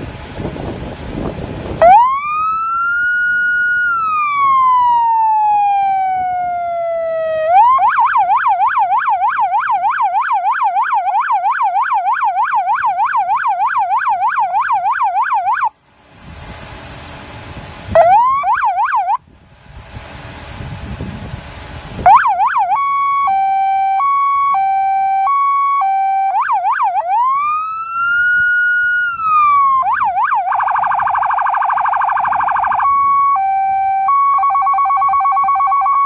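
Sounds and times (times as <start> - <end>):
police siren wailing and yelping: 1.8 - 15.7, 18.0 - 19.2, 22.1 - 36.0.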